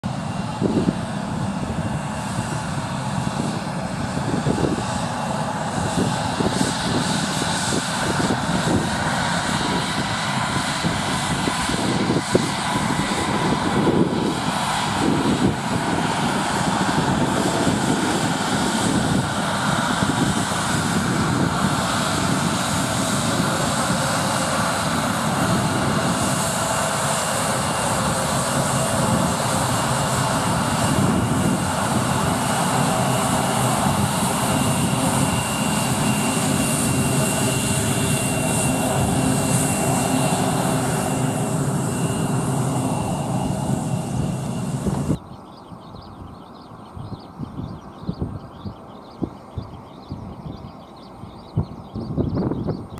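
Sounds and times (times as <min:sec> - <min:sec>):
jet engine rumble: 0:00.0 - 0:52.9
jet engines whining: 0:00.0 - 0:52.9.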